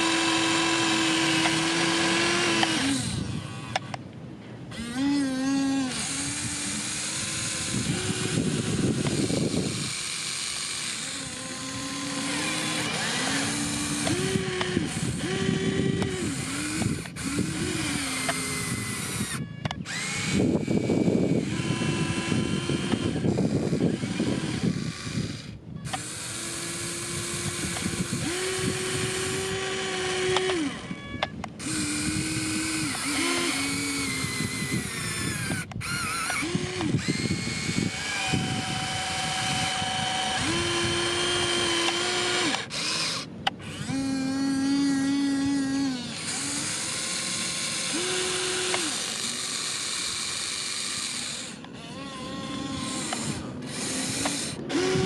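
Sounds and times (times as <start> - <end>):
farm machinery whining: 0.0 - 55.0.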